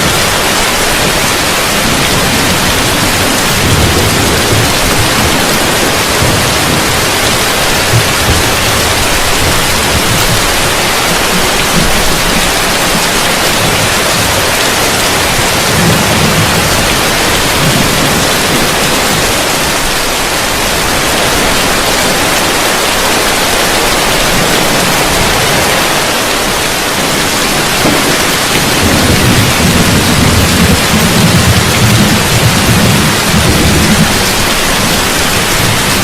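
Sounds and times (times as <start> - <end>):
heavy rain on a roof: 0.0 - 36.0
thunder rumbling: 0.0 - 36.0.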